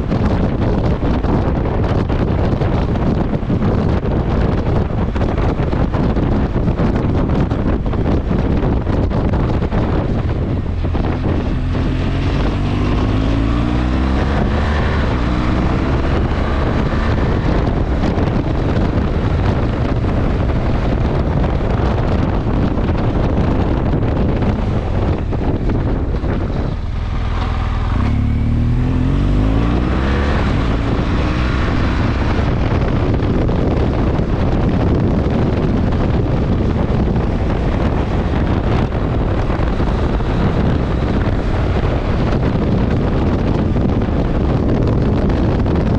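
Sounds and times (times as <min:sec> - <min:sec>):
motorcycle engine running: 0:00.0 - 0:45.9
wind buffeting microphone: 0:00.0 - 0:45.9.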